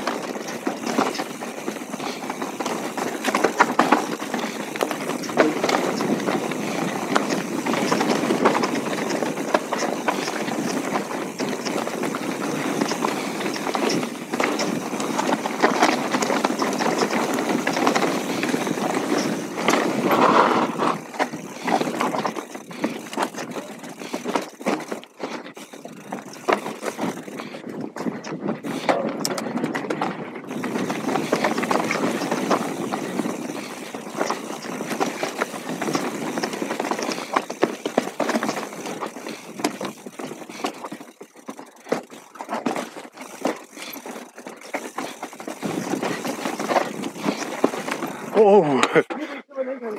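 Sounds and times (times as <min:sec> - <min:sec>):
bike clattering over bumps: 0:00.0 - 0:49.2.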